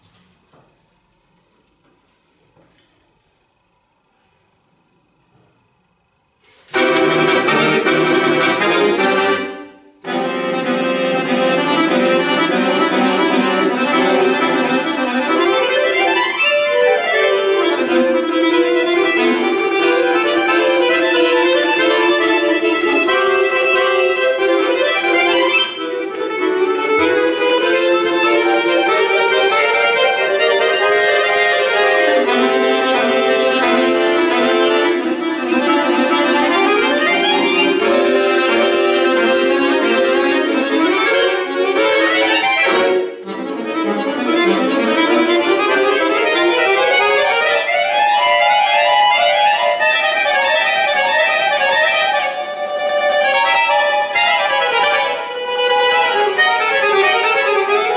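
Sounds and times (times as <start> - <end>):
accordion playing: 6.6 - 57.9.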